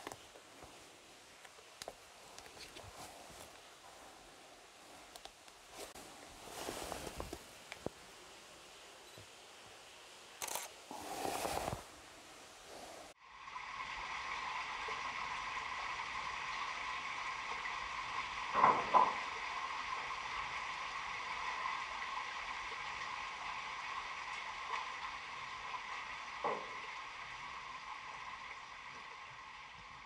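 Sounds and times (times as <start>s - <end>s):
steady rushing hiss: 0.0s - 29.6s.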